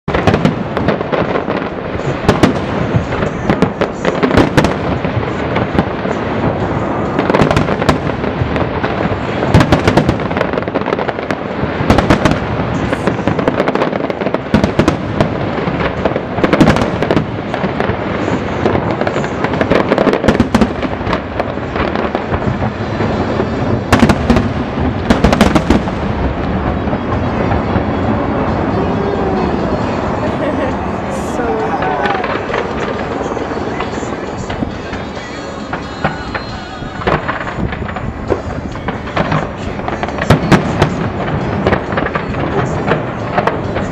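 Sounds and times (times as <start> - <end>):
fireworks bursting: 0.0 - 43.9
sharp loud bangs: 0.1 - 43.9.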